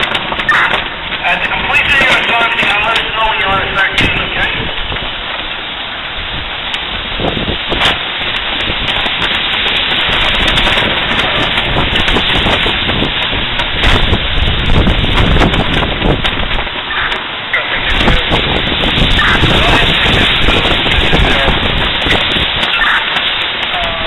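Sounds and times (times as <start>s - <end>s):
heavy rain: 0.0s - 24.0s
wind buffeting microphone: 0.0s - 24.0s.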